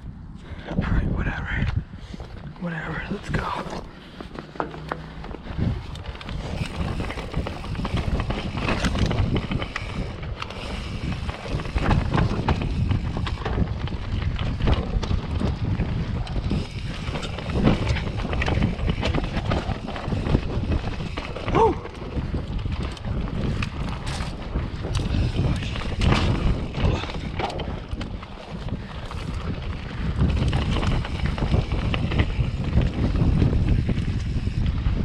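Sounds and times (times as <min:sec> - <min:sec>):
wind buffeting microphone: 0:00.0 - 0:35.0
mountain bike rattling over rough trail: 0:02.0 - 0:35.0.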